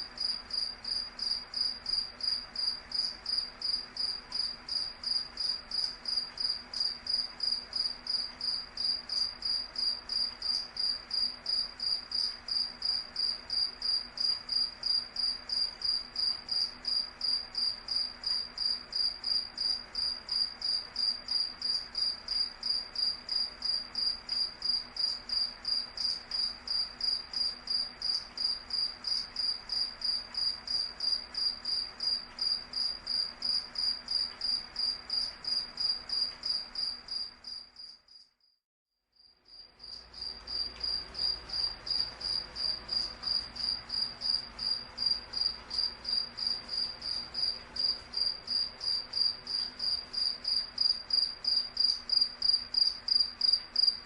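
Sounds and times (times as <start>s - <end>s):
cricket chirping: 0.0s - 38.6s, 39.2s - 54.0s.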